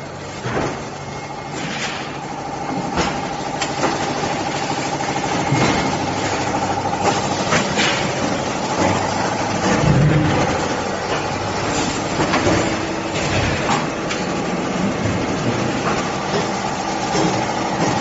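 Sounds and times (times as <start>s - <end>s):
machine humming and whining: 0.0s - 18.0s.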